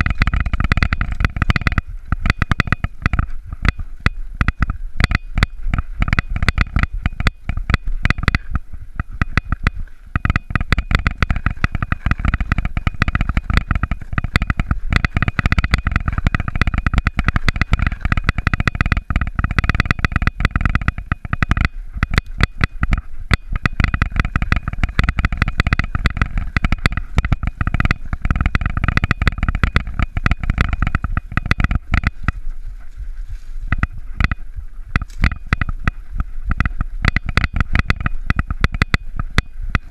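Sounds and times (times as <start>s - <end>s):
bike rattling over bumps: 0.0s - 39.9s
tyres rumbling: 0.0s - 39.9s
wind: 0.0s - 39.9s.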